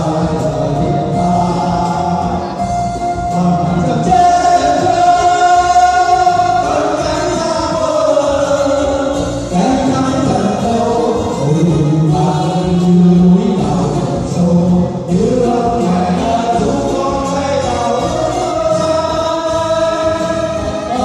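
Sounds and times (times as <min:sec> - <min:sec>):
choir singing held notes: 0:03.2 - 0:21.0.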